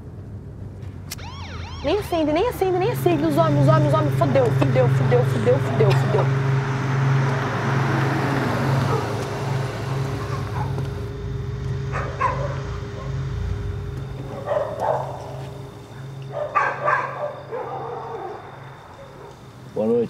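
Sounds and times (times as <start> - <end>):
car engine idling: 1.2 - 20.0.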